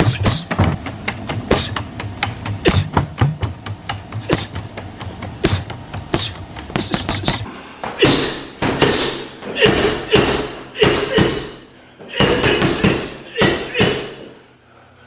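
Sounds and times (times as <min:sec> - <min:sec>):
punches on a punching ball: 0:00.0 - 0:14.2.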